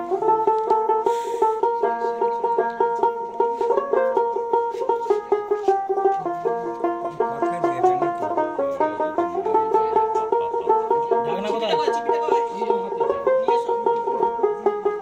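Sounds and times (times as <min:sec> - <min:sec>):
plucked-string melody with beat: 0:00.0 - 0:15.0.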